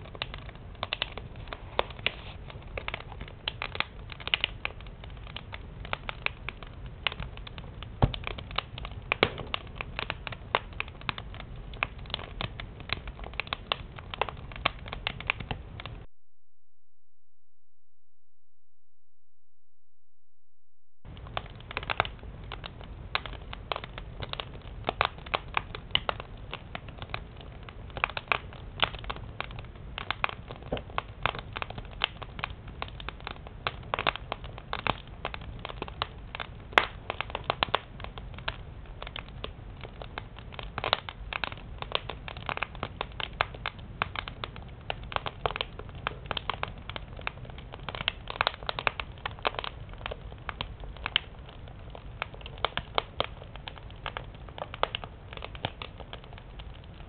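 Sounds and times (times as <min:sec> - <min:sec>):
fire low rumble: 0:00.0 - 0:16.1, 0:17.4 - 0:57.0
firewood crackling in a stove: 0:00.0 - 0:16.1, 0:21.1 - 0:57.0.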